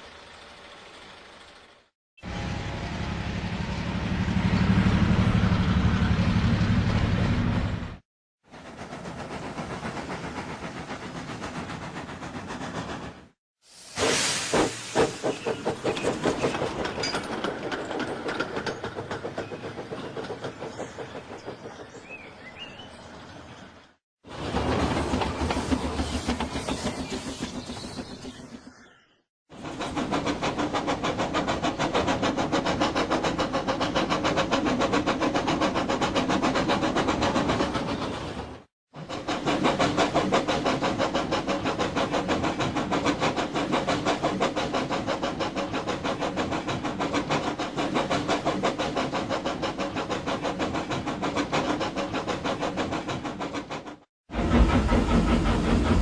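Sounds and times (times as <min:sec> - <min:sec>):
steam locomotive running: 0:00.1 - 0:23.5, 0:24.3 - 0:28.8, 0:29.6 - 0:56.0.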